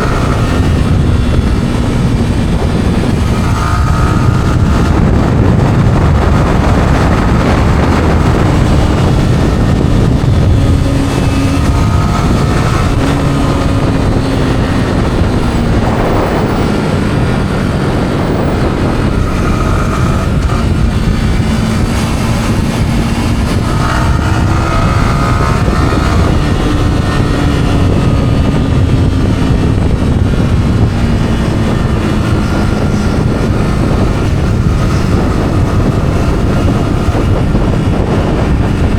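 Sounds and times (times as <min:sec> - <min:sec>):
motorbike engine running: 0:00.0 - 0:38.9
wind rumble on microphone: 0:00.0 - 0:38.9.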